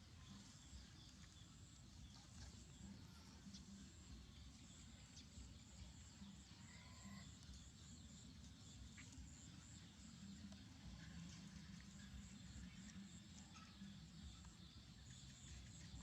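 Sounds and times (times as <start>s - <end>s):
faint chirp: 0.0s - 16.0s.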